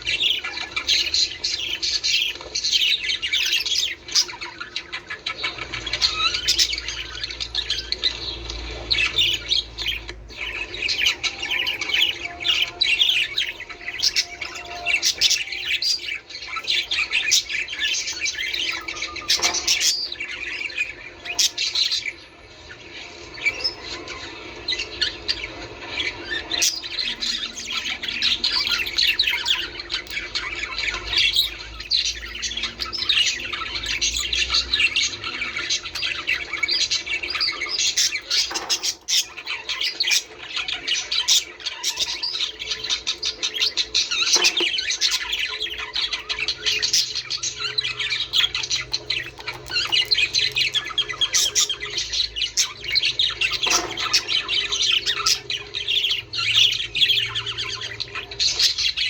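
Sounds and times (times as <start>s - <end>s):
budgerigars chattering: 0.0s - 59.0s.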